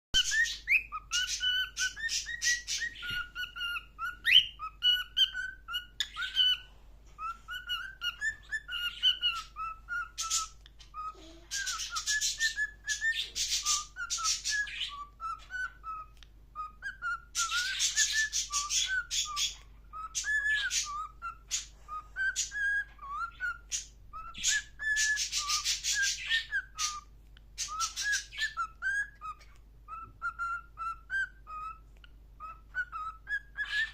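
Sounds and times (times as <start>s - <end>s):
parrots whistling chirps: 0.2s - 33.9s.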